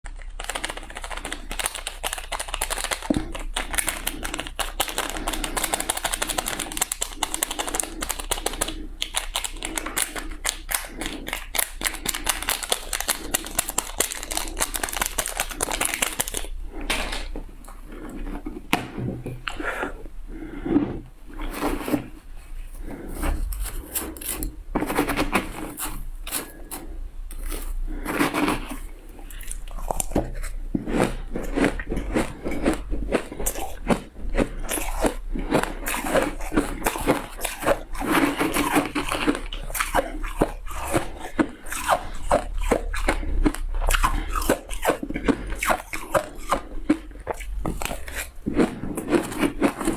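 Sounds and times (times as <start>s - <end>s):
chewing crunchy shaved ice: 0.0s - 49.9s.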